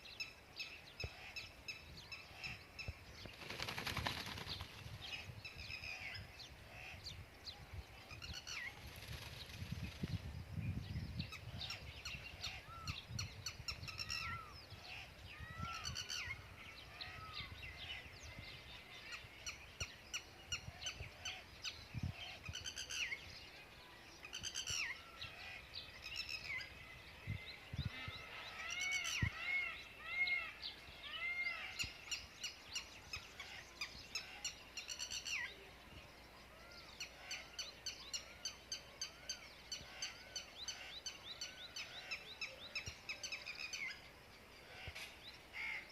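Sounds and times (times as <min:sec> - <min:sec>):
birds chirping in chorus: 0:00.0 - 0:45.9.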